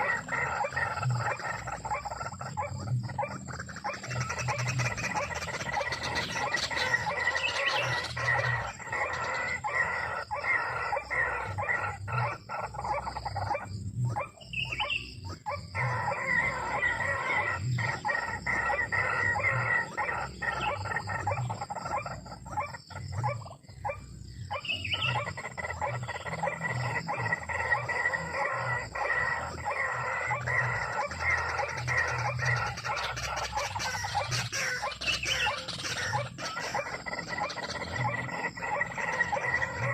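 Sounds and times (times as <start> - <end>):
birds calling harsh notes: 0.0 - 39.9.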